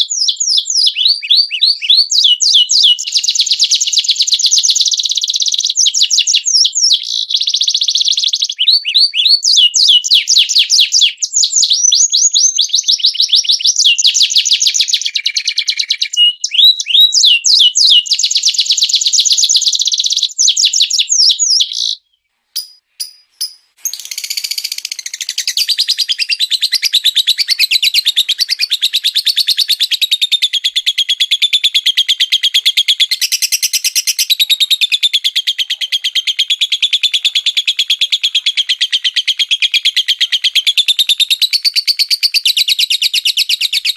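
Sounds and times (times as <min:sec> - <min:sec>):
fast steady bird trill: 0:00.0 - 0:43.9
songbirds rapid sharp chirps: 0:00.0 - 0:43.9.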